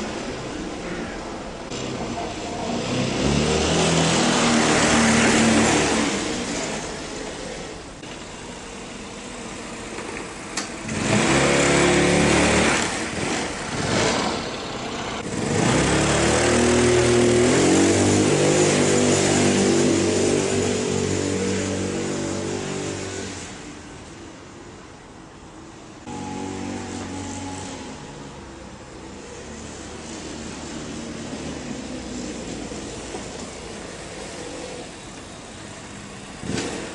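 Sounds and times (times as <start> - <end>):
motor scooter engine: 0.0 - 23.8, 26.0 - 36.9.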